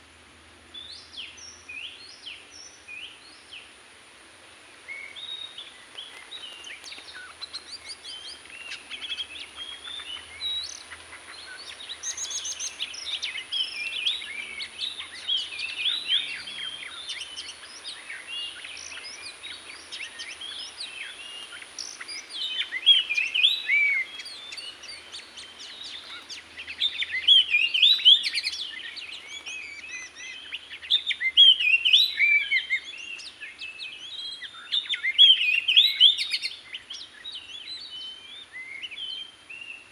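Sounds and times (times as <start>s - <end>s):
bird singing whistled phrases: 6.5s - 39.9s.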